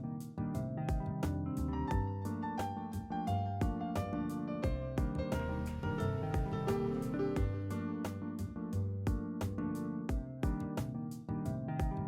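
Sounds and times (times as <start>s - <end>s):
gentle instrumental music with piano: 0.0s - 12.0s.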